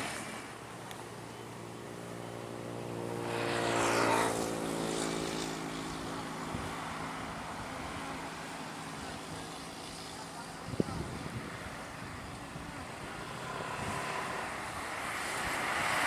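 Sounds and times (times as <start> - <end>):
bus passing: 0.0 - 16.0.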